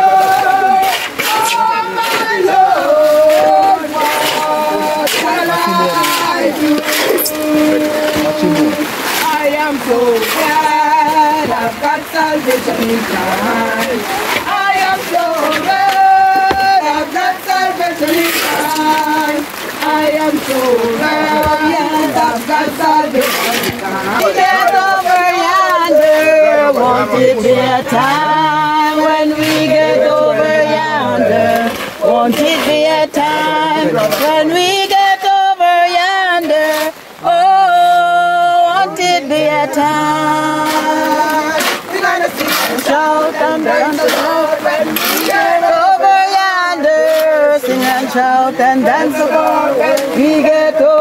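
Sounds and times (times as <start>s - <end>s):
voices singing together: 0.0s - 51.0s.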